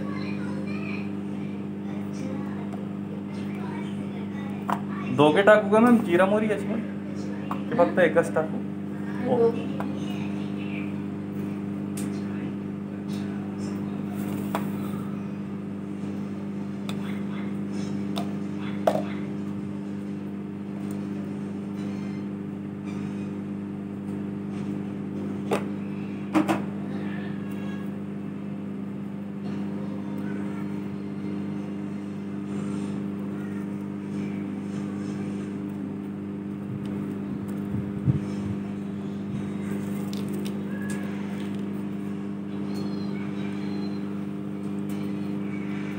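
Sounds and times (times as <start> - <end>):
microwave oven humming: 0.0 - 45.9.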